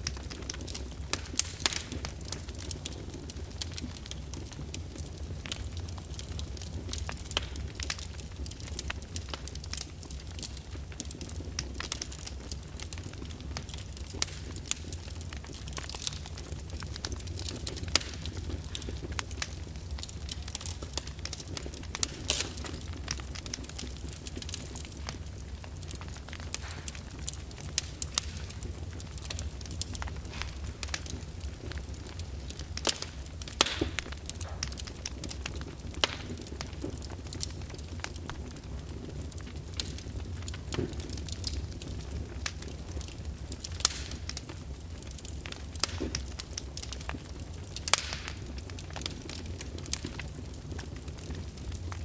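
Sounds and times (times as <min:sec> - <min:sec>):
open fire crackling: 0:00.0 - 0:52.0.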